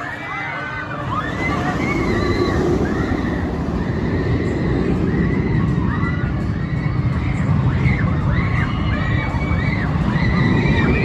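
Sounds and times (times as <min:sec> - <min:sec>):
roller coaster train rushing roar: 0:00.0 - 0:11.0.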